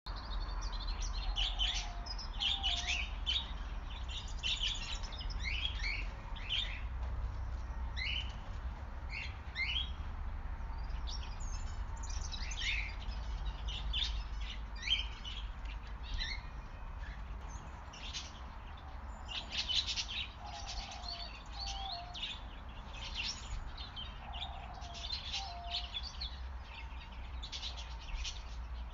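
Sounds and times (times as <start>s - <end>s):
birds chirping: 0.1s - 28.9s.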